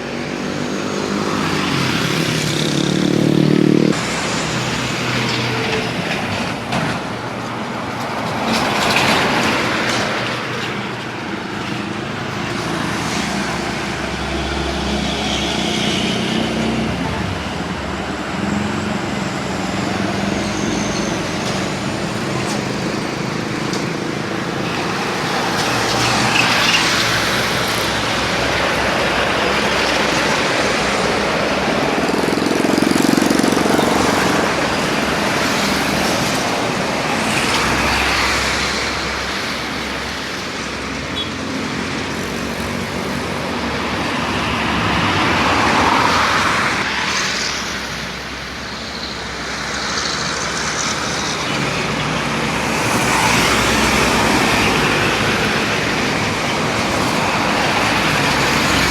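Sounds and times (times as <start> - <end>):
road traffic passing: 0.0 - 58.9.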